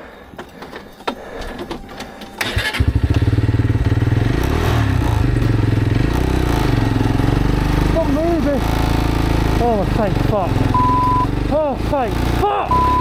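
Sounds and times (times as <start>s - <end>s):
motorcycle engine cranking and idling: 0.0s - 13.0s.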